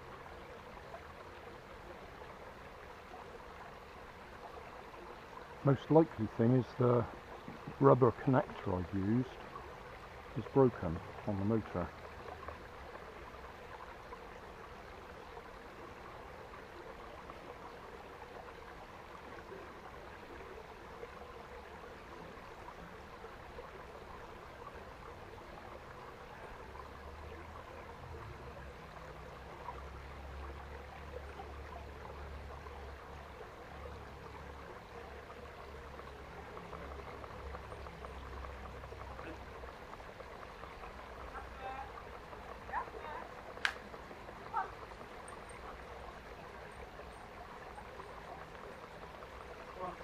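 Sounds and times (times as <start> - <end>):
stream running over stones: 0.0 - 50.0.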